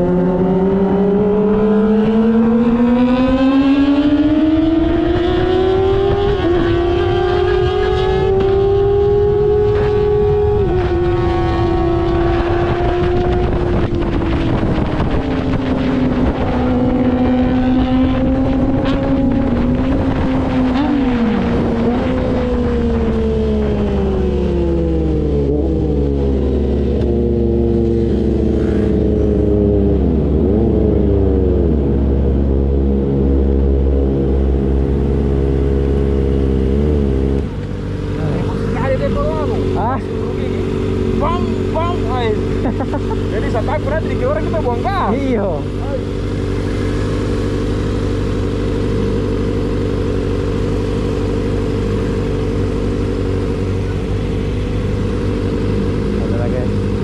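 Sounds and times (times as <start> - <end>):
motorcycle engine decelerating: 0.0 - 57.0.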